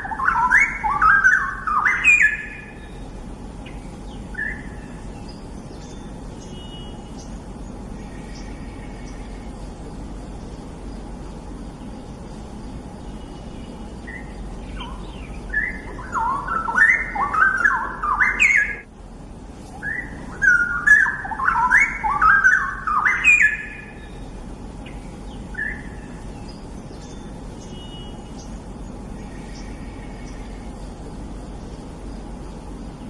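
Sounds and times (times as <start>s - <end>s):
bird singing warbling phrases: 0.0s - 18.9s, 19.8s - 33.0s
steady background hiss: 0.0s - 33.0s.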